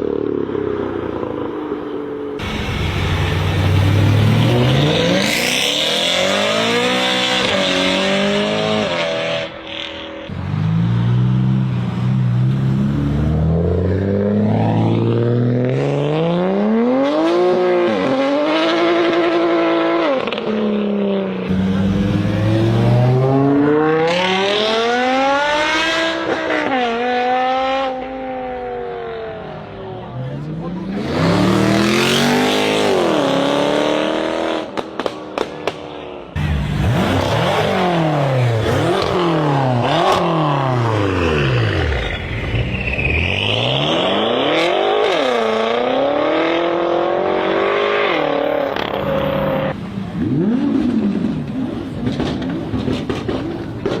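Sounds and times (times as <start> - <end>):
car engine accelerating with upshifts: 2.4 - 54.0.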